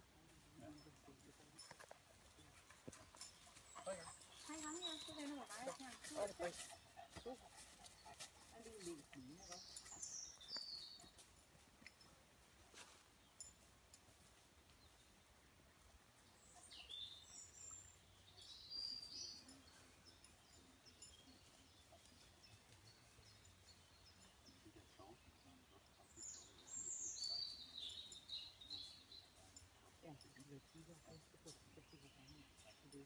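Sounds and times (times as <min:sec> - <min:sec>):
faint songbird chirps: 0:00.2 - 0:12.1, 0:14.6 - 0:33.0.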